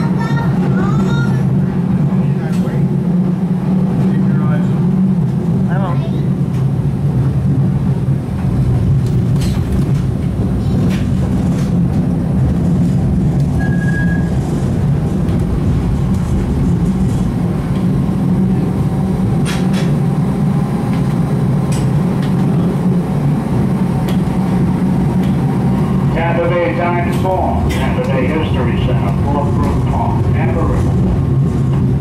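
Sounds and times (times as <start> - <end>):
streetcar motor and wheel rumble: 0.0 - 32.0.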